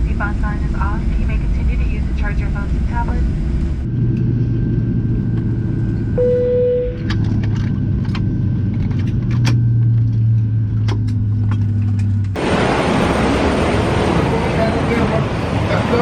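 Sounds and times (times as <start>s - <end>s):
airliner cabin hum: 0.0s - 16.0s.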